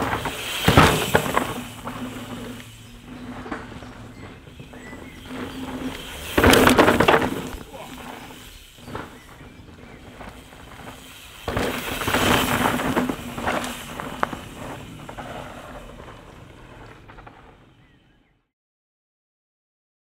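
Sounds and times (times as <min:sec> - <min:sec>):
bike tyres crunching on dirt: 0:00.0 - 0:18.3.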